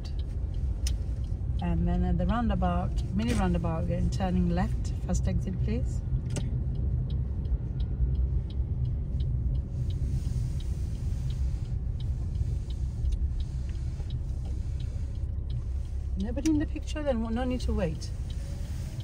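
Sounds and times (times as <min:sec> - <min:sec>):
car engine and road rumble: 0:00.0 - 0:19.0
indicator relay ticking: 0:00.0 - 0:19.0.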